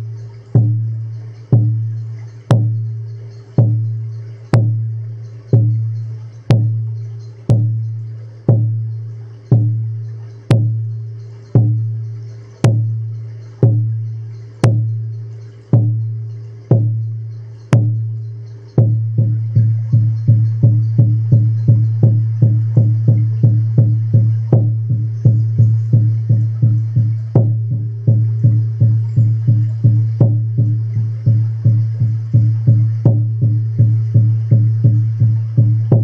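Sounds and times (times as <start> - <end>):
low drum beats: 0.0 - 36.0.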